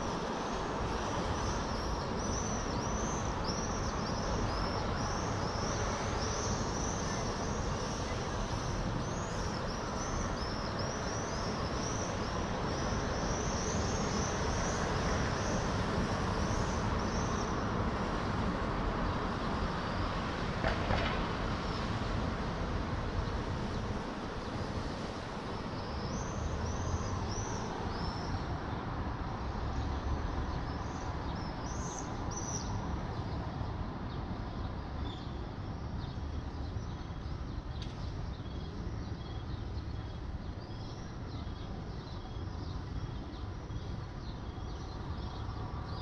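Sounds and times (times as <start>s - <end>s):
city traffic rumble: 0.0s - 46.0s.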